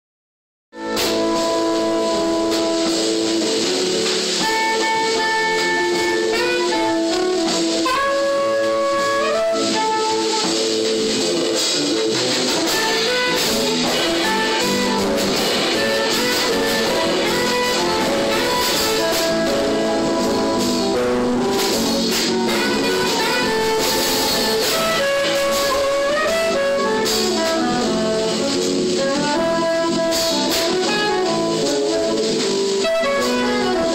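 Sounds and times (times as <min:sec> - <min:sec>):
jazz music with horn melody: 0:00.7 - 0:33.9.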